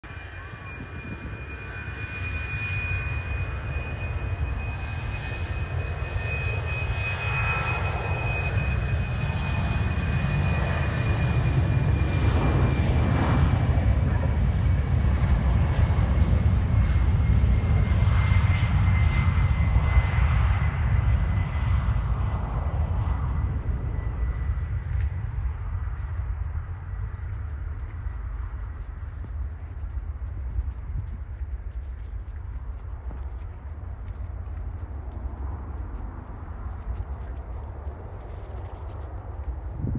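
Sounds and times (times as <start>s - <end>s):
jet engines at takeoff: 0.0s - 39.9s.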